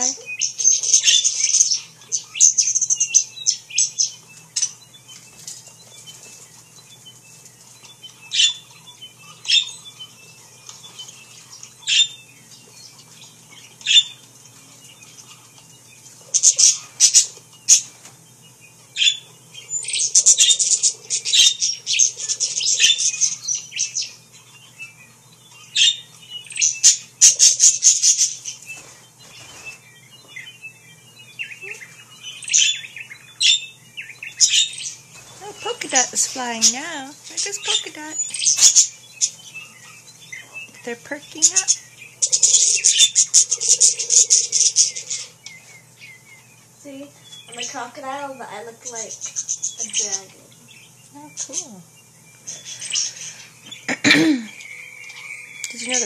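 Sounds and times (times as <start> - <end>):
parakeets chirping and chattering: 0.0 - 56.0.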